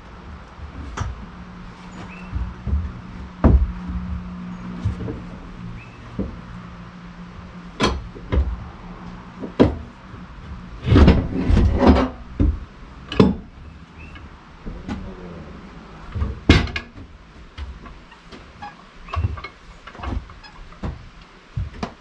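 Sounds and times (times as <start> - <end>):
log knocking on steel bed: 0.2 - 6.6, 9.4 - 15.2, 16.0 - 22.0.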